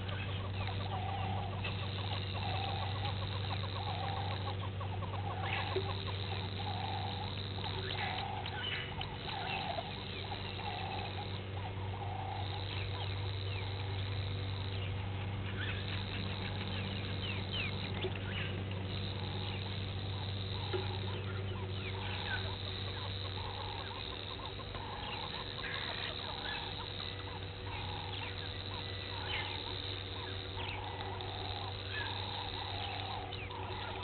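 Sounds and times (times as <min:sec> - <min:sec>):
bird short repeated calls: 0:00.0 - 0:34.0
low electrical hum: 0:00.0 - 0:34.0.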